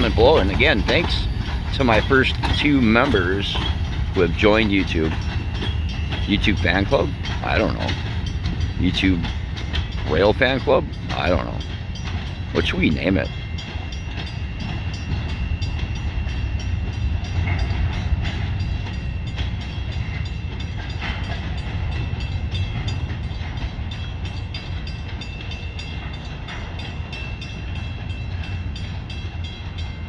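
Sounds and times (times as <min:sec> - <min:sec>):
regular sharp ticking: 0:00.0 - 0:29.9
freight train cars rumbling: 0:00.0 - 0:30.0.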